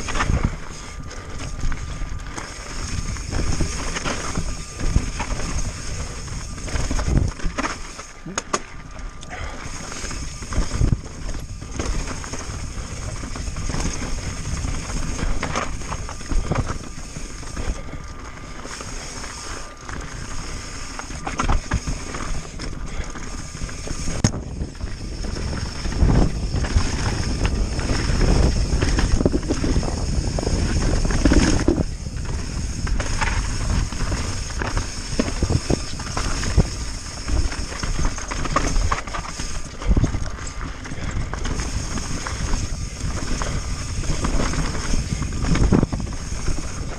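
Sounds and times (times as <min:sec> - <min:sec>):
wind on microphone: 0:00.0 - 0:07.8, 0:09.3 - 0:46.9
bike knocking and rattling: 0:00.0 - 0:46.9.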